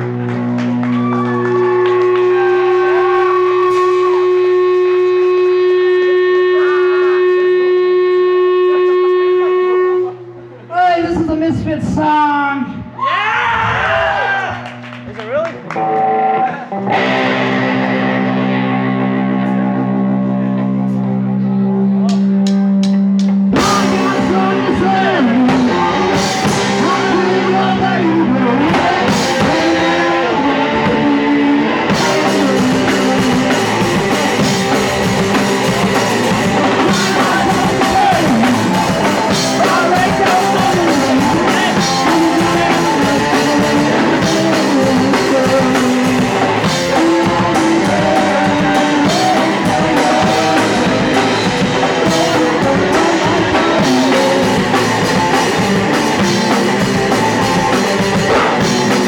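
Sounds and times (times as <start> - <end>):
drum kit: 0.0 - 9.2, 13.8 - 59.0
electric guitar: 0.0 - 59.0.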